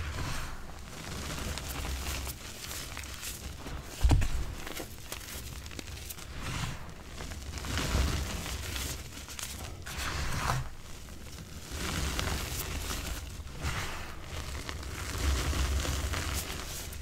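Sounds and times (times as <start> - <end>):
hands crushing chalk: 0.1 - 17.0.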